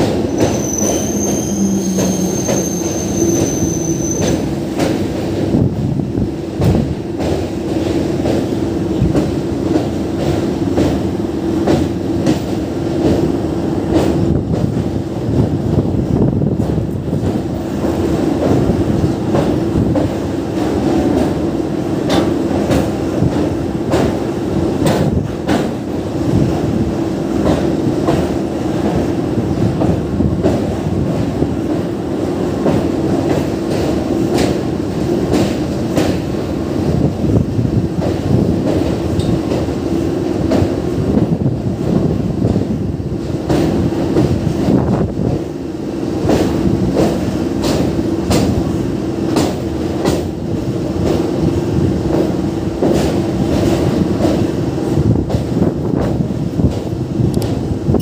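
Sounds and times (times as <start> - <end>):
rail joint clicks: 0.0 - 58.0
train wheels rumbling on rails: 0.0 - 58.0.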